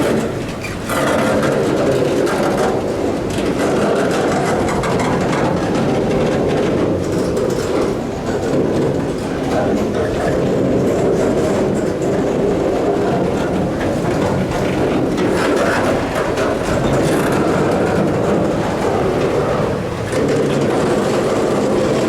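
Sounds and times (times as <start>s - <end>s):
freight train rumbling: 0.0s - 22.0s
train wheels clacking: 0.0s - 22.0s.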